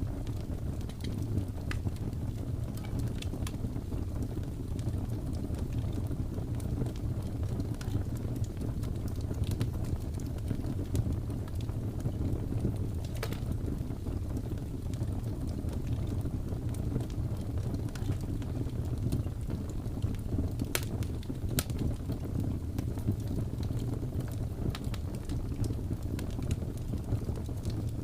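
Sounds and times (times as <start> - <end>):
low rumble of blizzard wind: 0.0 - 28.0
wood fire crackling: 0.0 - 28.0.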